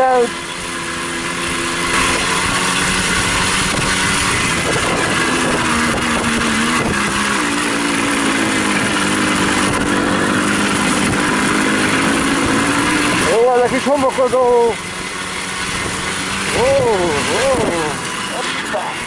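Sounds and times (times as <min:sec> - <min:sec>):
moped engine running: 0:00.0 - 0:19.0.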